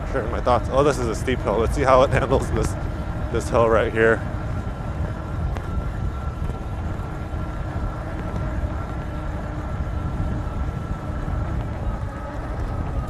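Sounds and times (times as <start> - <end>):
thin high whine: 0.0 - 13.0
tyres rolling on pavement: 0.0 - 13.0
wind on microphone: 0.0 - 13.0.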